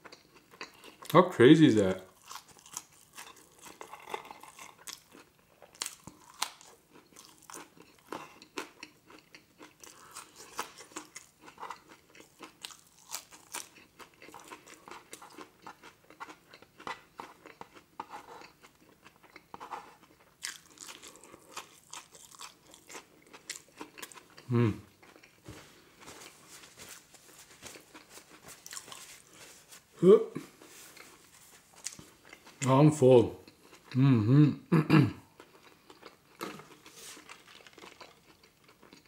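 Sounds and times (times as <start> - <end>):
chewing crispy fries: 0.0 - 1.2, 1.8 - 32.8, 35.2 - 39.0.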